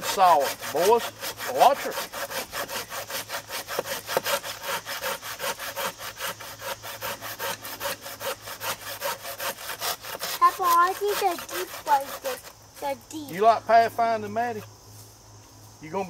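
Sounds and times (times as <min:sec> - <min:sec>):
handsaw cutting log: 0:00.0 - 0:13.0.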